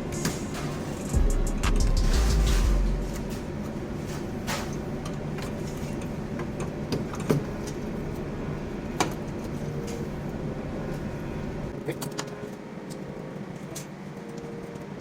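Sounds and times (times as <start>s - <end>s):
ship engine room machinery hum: 0.0s - 15.0s.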